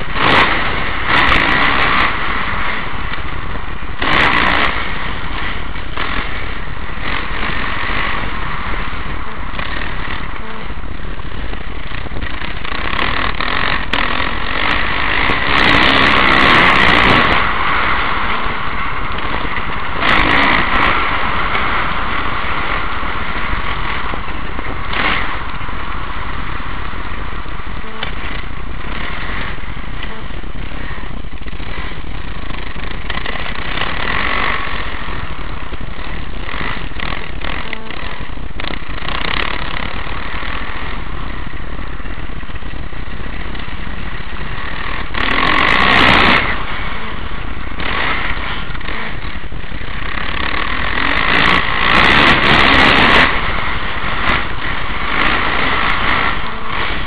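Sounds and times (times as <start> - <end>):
motorbike engine under throttle: 0.0 - 57.0.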